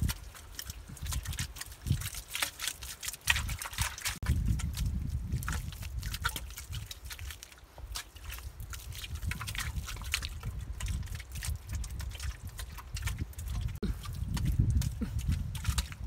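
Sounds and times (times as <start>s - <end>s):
wet mud squelching and slapping: 0.0s - 16.0s.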